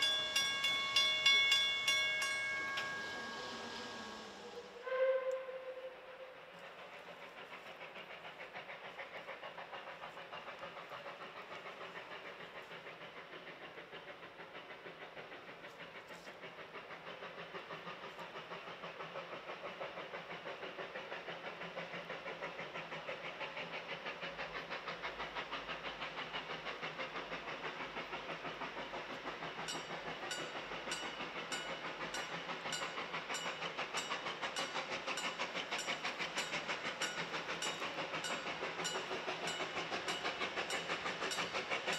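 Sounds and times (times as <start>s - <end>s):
steam locomotive exhaust beat: 0.0s - 41.9s.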